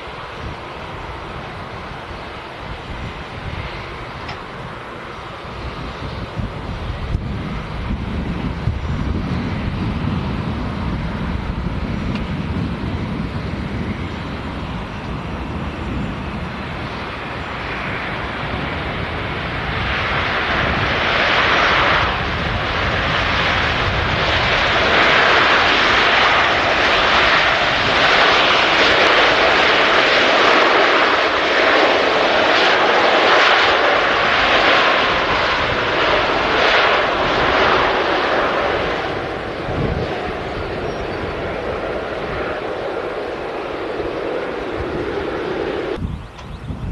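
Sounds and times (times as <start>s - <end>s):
jet airliner passing overhead: 0.0s - 46.9s.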